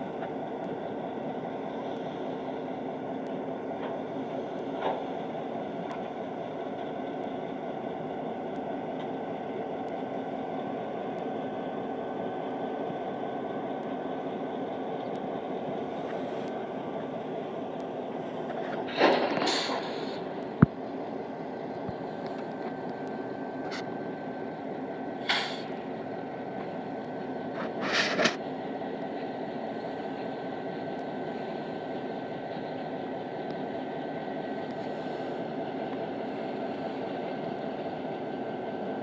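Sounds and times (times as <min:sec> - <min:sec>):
car engine idling: 0:00.0 - 0:27.8, 0:28.5 - 0:39.0.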